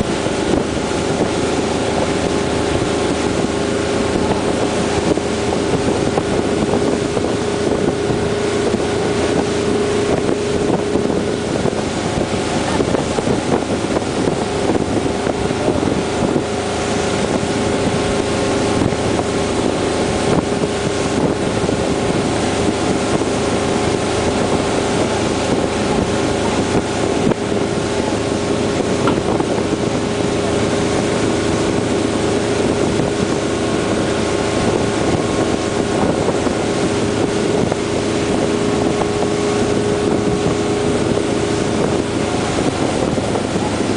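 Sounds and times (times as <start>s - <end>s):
motorboat engine droning: 0.0s - 43.9s
wind buffeting microphone: 0.0s - 43.9s.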